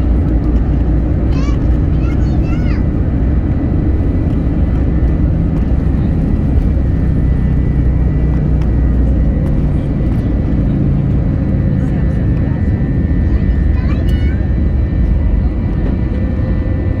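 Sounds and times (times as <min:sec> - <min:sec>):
jet engines and wheels rumbling: 0:00.0 - 0:17.0.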